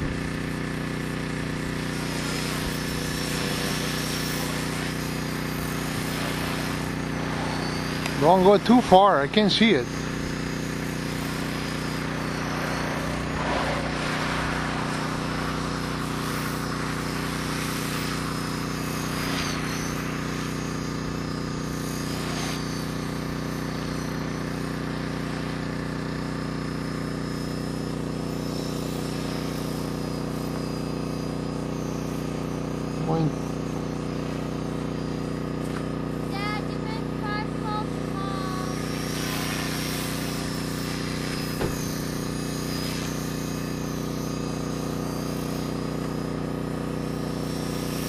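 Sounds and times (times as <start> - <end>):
rc helicopter rotor hum: 0.0 - 48.0.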